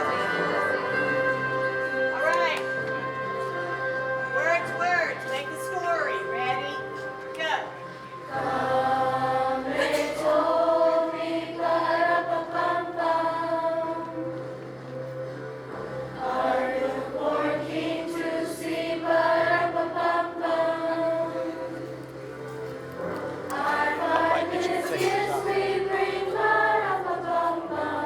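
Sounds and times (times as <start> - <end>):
choir singing in unison: 0.0 - 4.3, 6.7 - 15.0, 15.7 - 22.2, 23.0 - 28.0
low musical accompaniment: 0.0 - 28.0.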